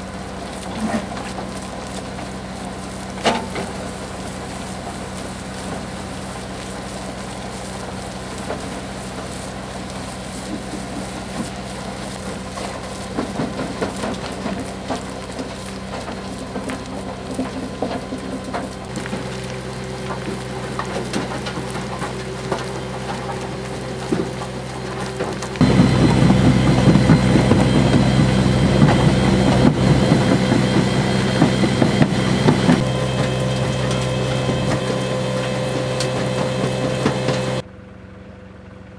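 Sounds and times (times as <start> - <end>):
crackling and rattling: 0.0 - 37.6
engine running: 0.0 - 38.9.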